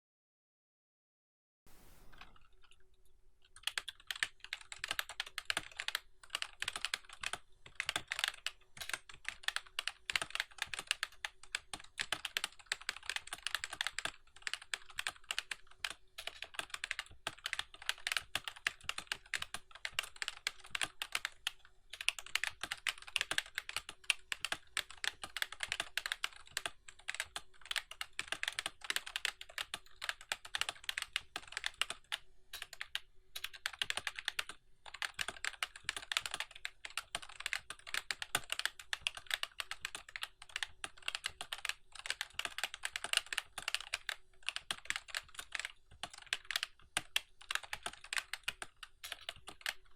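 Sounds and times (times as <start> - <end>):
rapid keyboard typing: 3.5 - 49.9.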